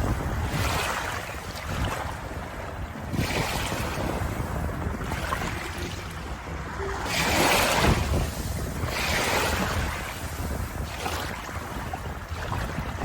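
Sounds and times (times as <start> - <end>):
ocean waves washing onto shore: 0.0 - 13.0.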